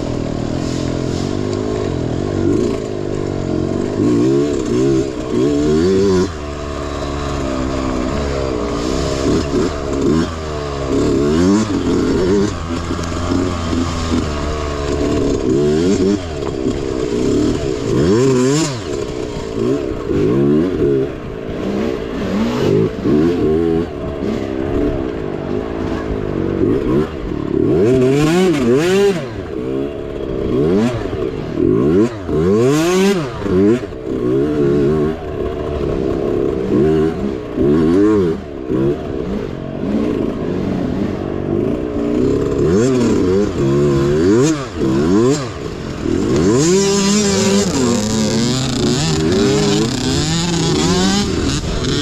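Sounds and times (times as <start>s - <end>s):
mini bike engine racing: 0.0s - 52.0s.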